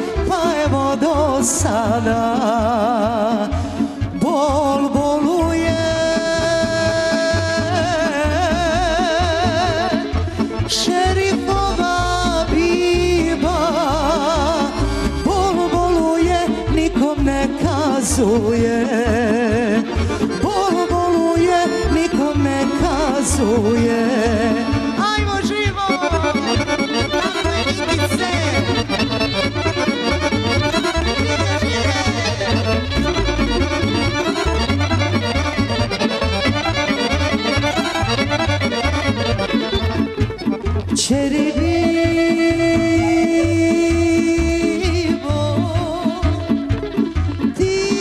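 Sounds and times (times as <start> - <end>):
accordion: 0.0 - 48.0
folk band playing: 0.0 - 48.0.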